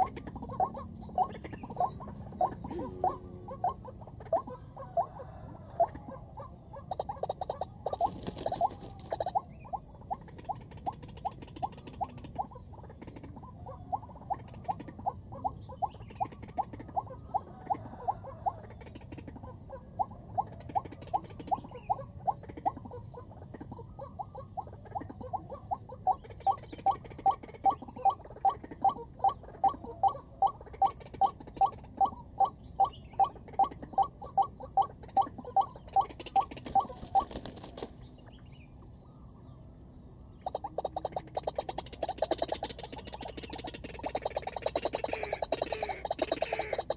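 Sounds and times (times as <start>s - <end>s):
steady high-pitched whine: 0.0s - 46.9s.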